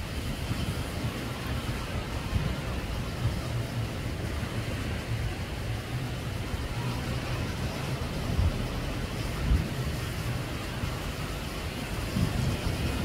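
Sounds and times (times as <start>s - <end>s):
steady background roar: 0.0s - 13.0s
wind buffeting microphone: 0.0s - 13.0s.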